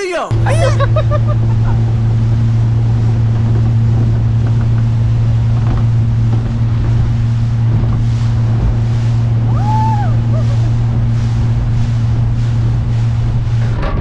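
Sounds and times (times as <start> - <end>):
water rushing past hull: 0.2 - 14.0
outboard motor drone: 0.3 - 14.0
wind noise on microphone: 0.3 - 14.0.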